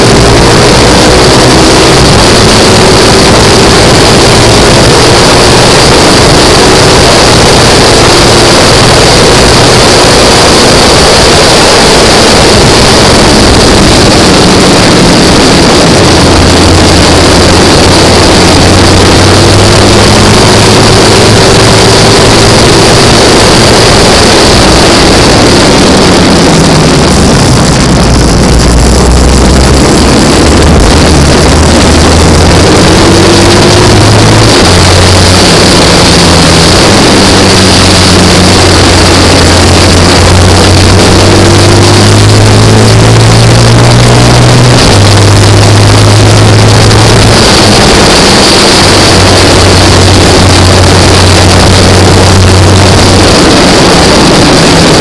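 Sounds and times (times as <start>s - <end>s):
racing engine running hard: 0.0s - 55.0s
wind and road noise: 0.0s - 55.0s.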